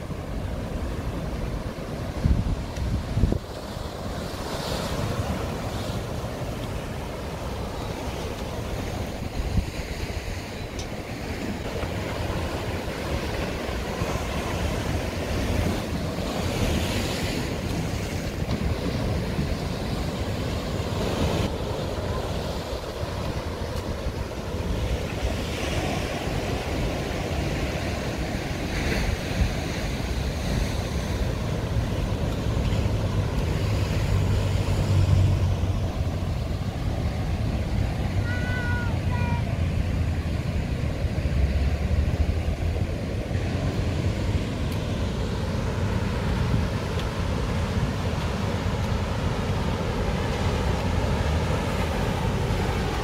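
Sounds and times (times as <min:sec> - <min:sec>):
ocean surf breaking on rocks: 0:00.0 - 0:53.0
wind buffeting microphone: 0:00.0 - 0:53.0.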